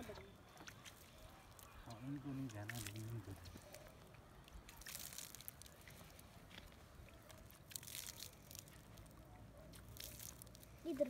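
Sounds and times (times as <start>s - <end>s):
water trickling onto soil: 0.0s - 11.0s
soft crackles: 0.4s - 11.0s.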